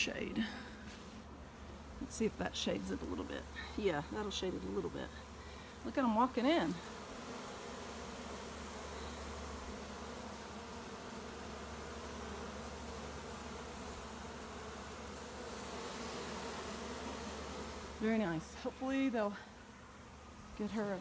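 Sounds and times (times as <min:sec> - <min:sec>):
bee swarm buzzing: 0:00.0 - 0:21.0.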